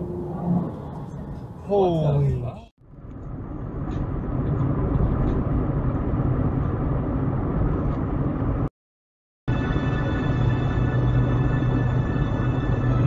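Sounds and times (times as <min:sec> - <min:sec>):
car road and engine noise: 0:00.0 - 0:08.7, 0:09.5 - 0:13.0.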